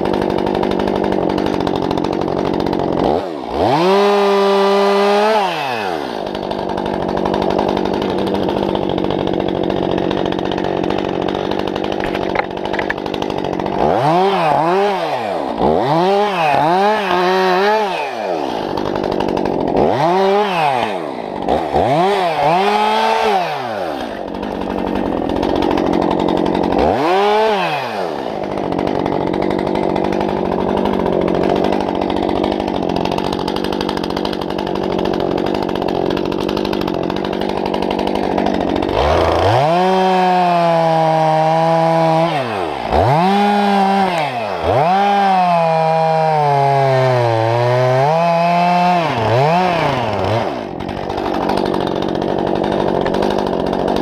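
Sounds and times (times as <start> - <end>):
chainsaw cutting a log: 0.0 - 54.0
chainsaw idling and revving: 0.0 - 54.0.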